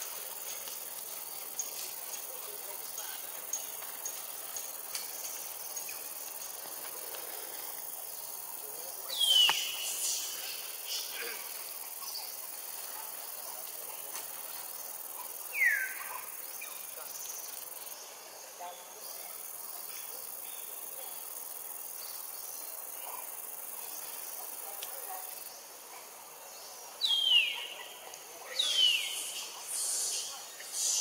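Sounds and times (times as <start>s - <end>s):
high insect drone: 0.0s - 31.0s.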